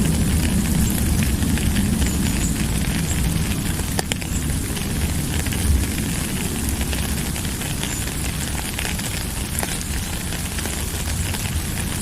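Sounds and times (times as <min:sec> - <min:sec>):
low rumble: 0:00.0 - 0:10.0
raindrops ticking: 0:00.0 - 0:12.0
steady rain falling: 0:00.0 - 0:12.0.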